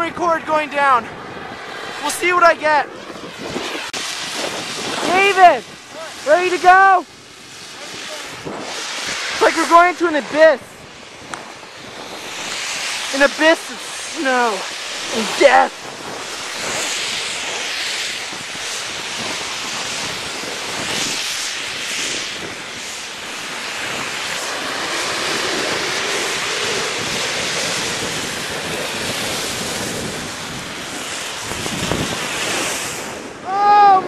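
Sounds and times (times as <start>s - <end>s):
wind rushing over microphone: 0.0s - 34.0s
snowboard sliding over snow: 0.1s - 34.0s.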